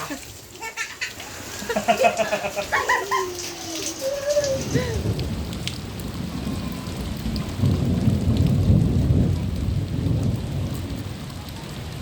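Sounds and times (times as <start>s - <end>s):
steady rain: 0.0s - 12.0s
thunder rumbling: 2.2s - 12.0s.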